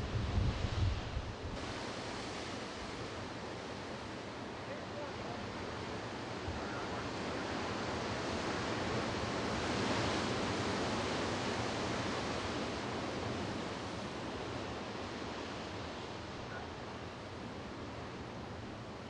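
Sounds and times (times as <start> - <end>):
ocean surf washing: 0.0 - 19.0.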